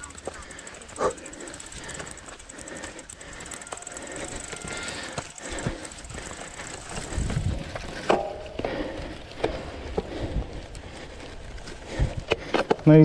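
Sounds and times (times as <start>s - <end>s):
bike knocking and rattling: 0.0s - 13.0s
bike tyre rumble on grass: 0.0s - 13.0s.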